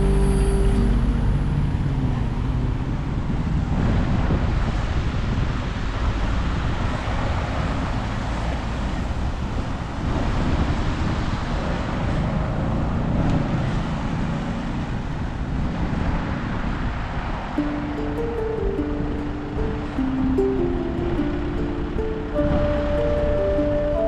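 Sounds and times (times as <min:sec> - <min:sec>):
city traffic noise: 0:00.0 - 0:24.0
wind on camera microphone: 0:00.0 - 0:24.0.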